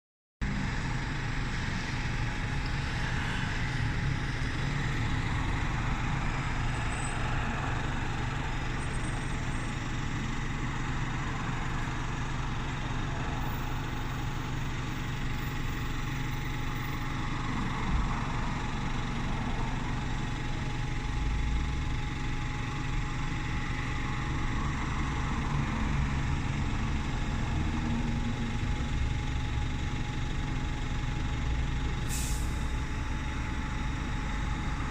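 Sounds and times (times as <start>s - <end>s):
bus engine idling: 0.4s - 34.9s.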